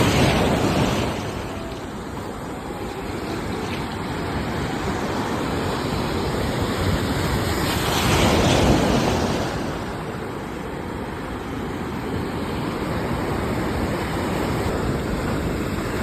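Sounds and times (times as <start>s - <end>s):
sea waves washing ashore: 0.0s - 16.0s.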